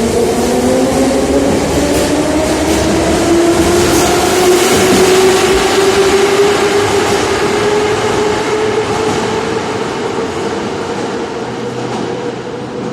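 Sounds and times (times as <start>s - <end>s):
metro train motor whine and rumble: 0.0s - 12.9s.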